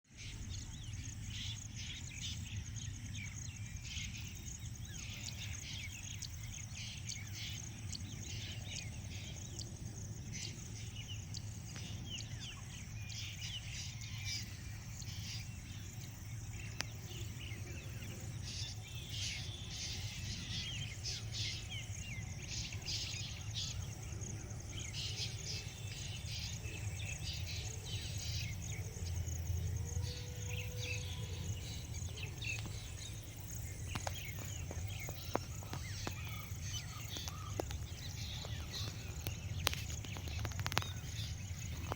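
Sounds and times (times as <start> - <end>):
small birds chirping: 0.0 - 41.9
insects calling: 0.1 - 41.9.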